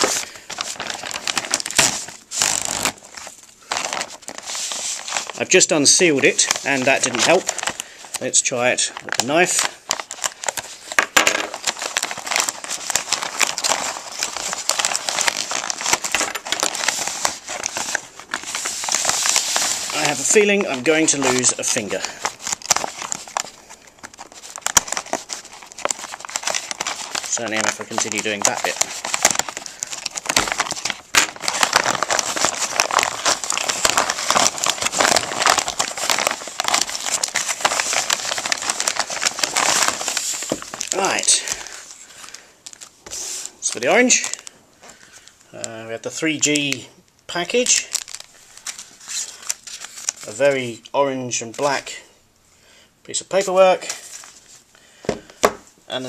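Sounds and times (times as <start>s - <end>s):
wrapping crinkling: 0.0s - 52.1s, 53.2s - 56.0s.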